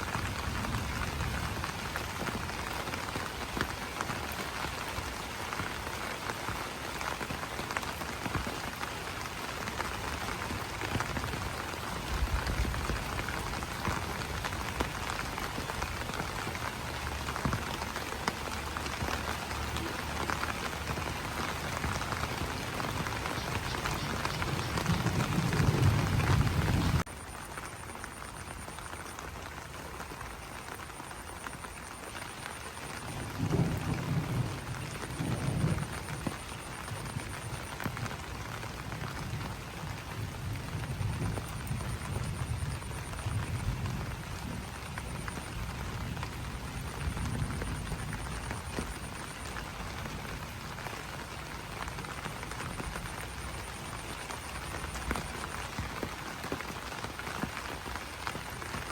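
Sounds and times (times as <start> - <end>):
rain pattering on leaves: 0.0 - 58.9.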